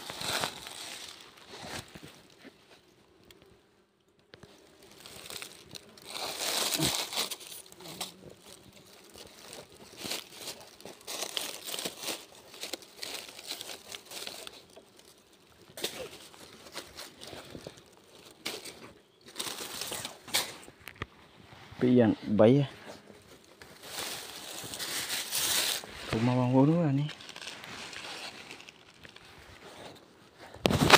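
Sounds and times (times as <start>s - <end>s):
dry leaves rustling: 0.0s - 2.5s, 4.4s - 20.7s, 23.2s - 30.1s.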